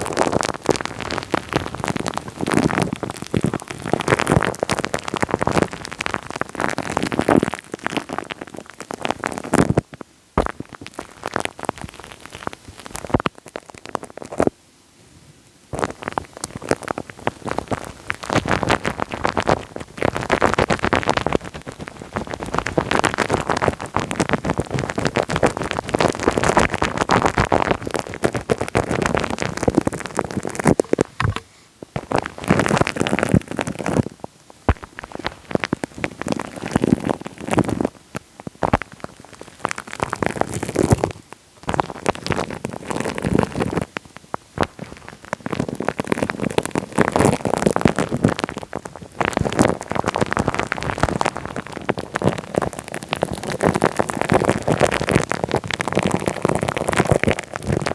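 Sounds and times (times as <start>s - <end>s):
wet crackling and popping on microphone: 0.0s - 14.6s, 15.7s - 57.9s.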